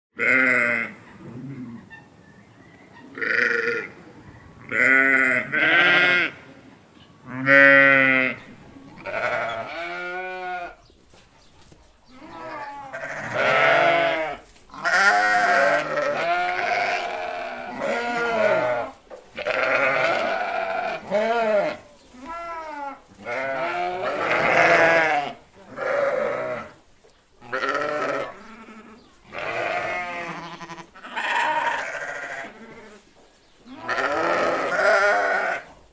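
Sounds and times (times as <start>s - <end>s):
sheep and goats bleating: 0.2s - 1.8s, 3.1s - 3.9s, 4.6s - 6.5s, 7.2s - 10.8s, 12.1s - 26.8s, 27.4s - 33.0s, 33.6s - 35.7s.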